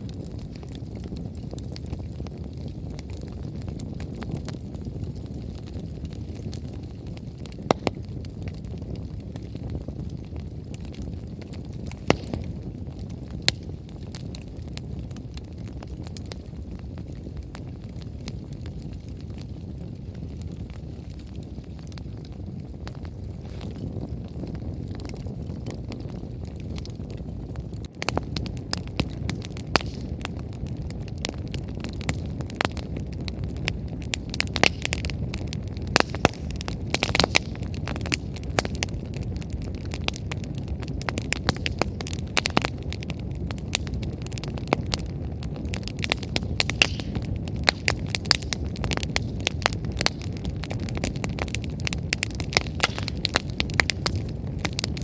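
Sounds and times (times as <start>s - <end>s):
bonfire crackling and popping: 0.0s - 55.0s
low fire rumble: 0.0s - 55.0s.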